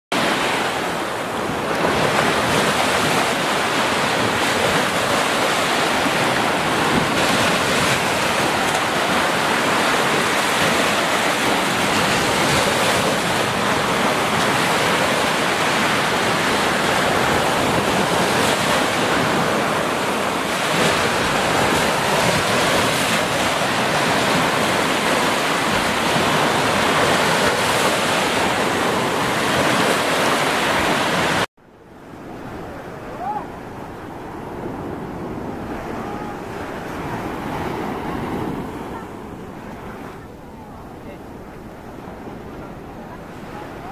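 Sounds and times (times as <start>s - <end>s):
waves washing up a beach: 0.1s - 43.9s.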